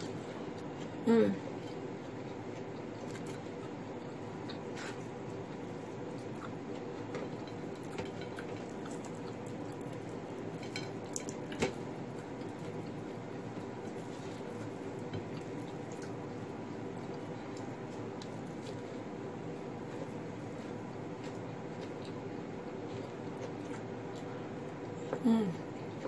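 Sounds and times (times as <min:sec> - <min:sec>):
background hum: 0:00.0 - 0:26.0.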